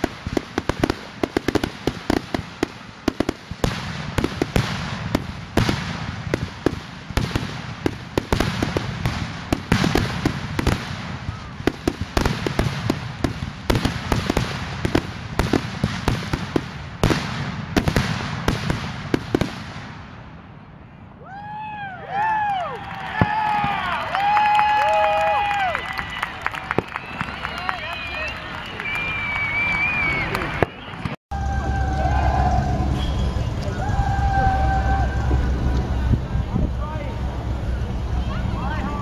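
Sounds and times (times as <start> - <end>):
firework crackle: 0.0 - 20.3, 22.9 - 39.0.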